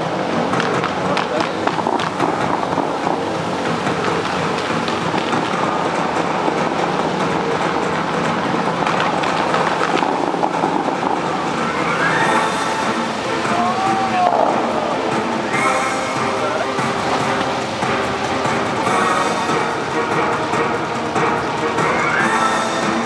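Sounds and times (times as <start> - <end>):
fountain water jets spraying: 0.0 - 23.0.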